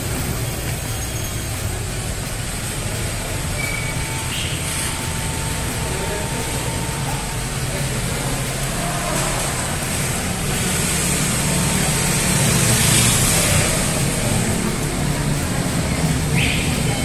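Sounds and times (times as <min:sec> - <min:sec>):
scooters riding in garage: 0:00.0 - 0:17.0.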